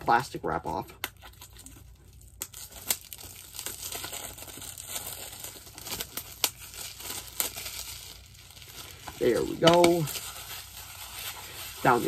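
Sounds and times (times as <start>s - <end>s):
plastic wrap crinkling: 0.0s - 12.0s
plastic wrap snapping: 1.0s - 12.0s.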